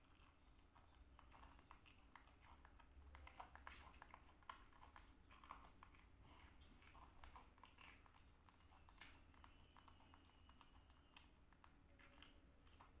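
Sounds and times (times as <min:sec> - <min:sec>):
monkey chewing crunchy food: 0:00.0 - 0:13.0.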